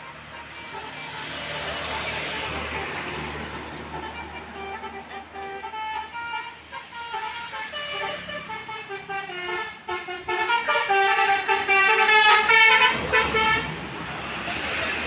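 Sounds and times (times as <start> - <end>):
bus musical horn tune: 0.0 - 15.0
passing vehicle noise: 0.0 - 15.0.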